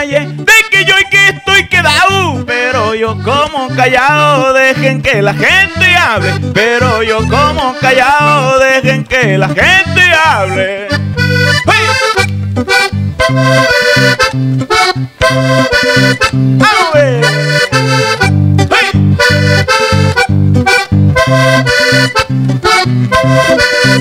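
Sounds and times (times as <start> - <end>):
button accordion playing: 0.0 - 24.0
low bass line: 0.0 - 24.0.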